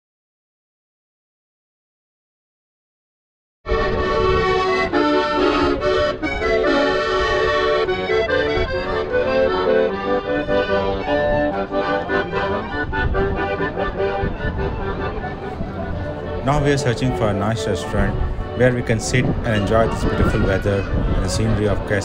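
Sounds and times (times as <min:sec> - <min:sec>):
accordion music: 0:03.7 - 0:22.0.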